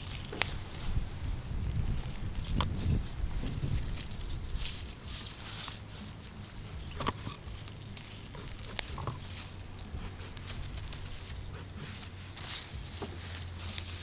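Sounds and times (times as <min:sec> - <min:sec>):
leaves rustling and tearing: 0:00.0 - 0:14.0.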